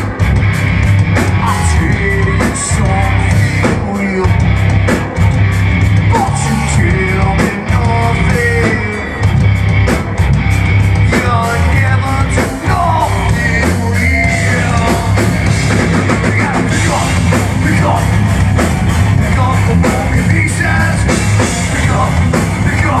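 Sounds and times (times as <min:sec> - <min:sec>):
bass guitar: 0:00.0 - 0:23.0
distorted electric guitar: 0:00.0 - 0:23.0
drums: 0:00.0 - 0:23.0
person singing lead vocal: 0:01.3 - 0:05.2, 0:06.0 - 0:09.4, 0:11.0 - 0:18.4, 0:19.2 - 0:23.0.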